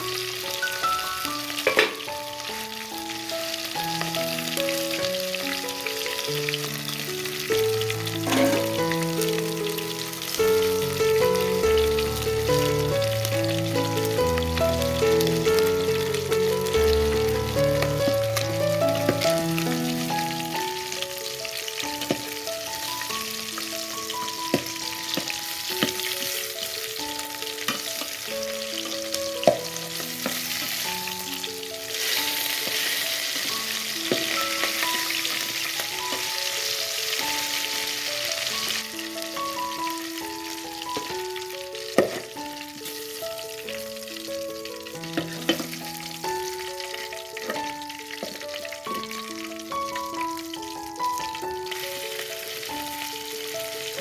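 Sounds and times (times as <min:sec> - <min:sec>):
food sizzling in a pan: 0:00.0 - 0:54.0
soft melodic background music: 0:00.0 - 0:54.0.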